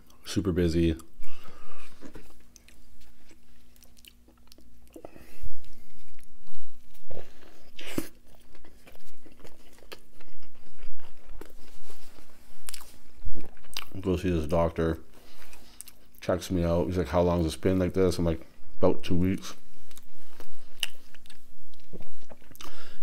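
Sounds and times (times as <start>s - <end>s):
person chewing with crunches: 0.8s - 16.2s, 19.5s - 23.0s.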